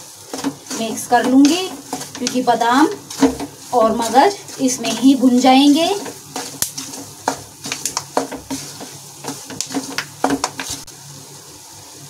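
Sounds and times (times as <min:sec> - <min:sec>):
spatula stirring in a metal pan: 0:00.0 - 0:10.9
seeds crackling in hot flour: 0:00.0 - 0:11.6.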